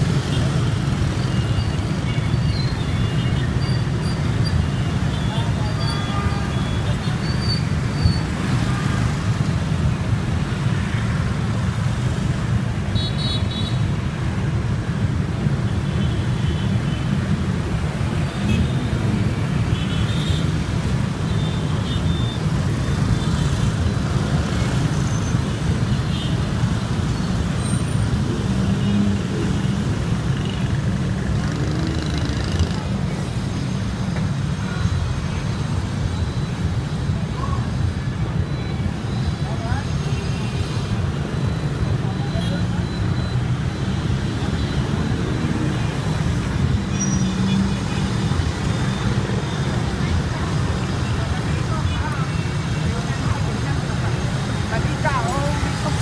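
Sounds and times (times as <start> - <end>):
motorbike traffic engine drone: 0.0 - 56.0.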